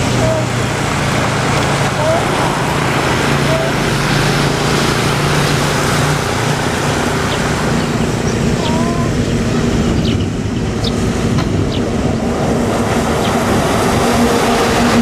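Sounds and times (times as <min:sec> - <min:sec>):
loud rushing noise: 0:00.0 - 0:15.0
motor running steadily: 0:00.0 - 0:15.0.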